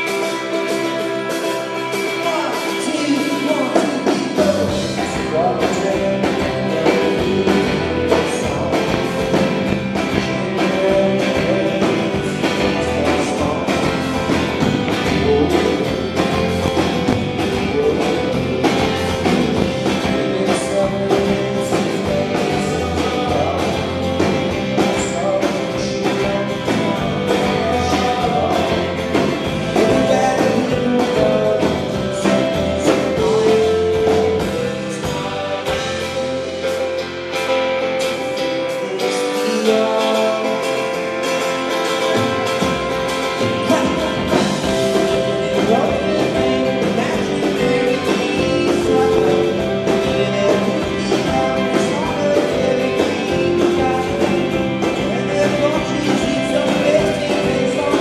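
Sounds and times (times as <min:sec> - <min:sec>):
man singing: 0:00.0 - 0:37.0, 0:37.7 - 0:58.0
acoustic guitar strumming: 0:00.0 - 0:58.0
bass guitar: 0:00.0 - 0:58.0
drums: 0:00.0 - 0:58.0.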